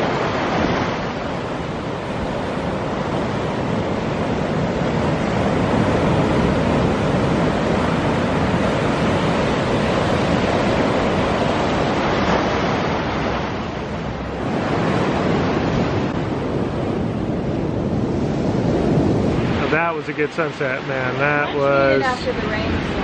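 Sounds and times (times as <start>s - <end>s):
ocean surf breaking: 0.0s - 23.0s
wind rumbling on microphone: 0.0s - 23.0s.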